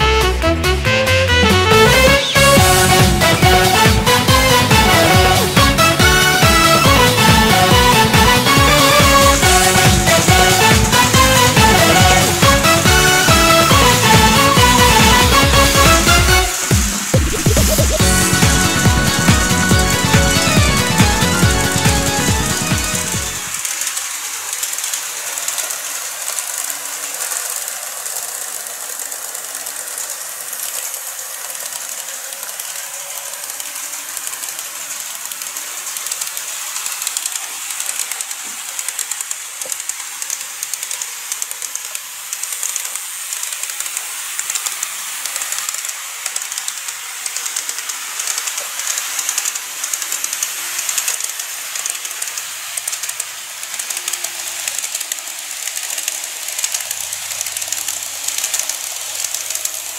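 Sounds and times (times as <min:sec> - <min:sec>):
model train wheels rolling on rails: 0:01.1 - 0:59.9
fast fine clicking: 0:02.3 - 0:59.9.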